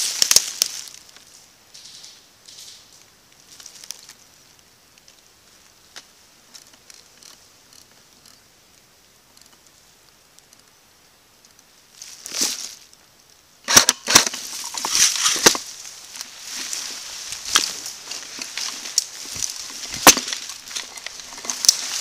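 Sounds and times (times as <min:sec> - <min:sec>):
dry grass rustling and crackling: 0:00.0 - 0:22.0.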